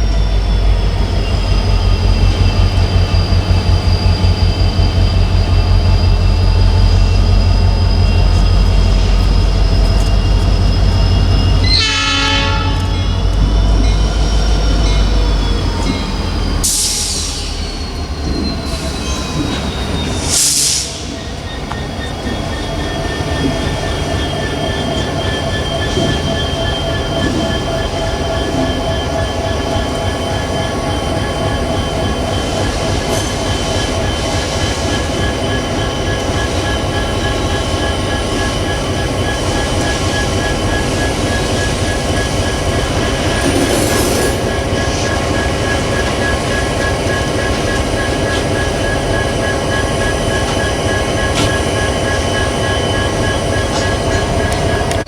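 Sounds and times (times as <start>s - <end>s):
freight train rumbling past: 0.0s - 55.0s
high train wheel squeal: 0.0s - 55.0s.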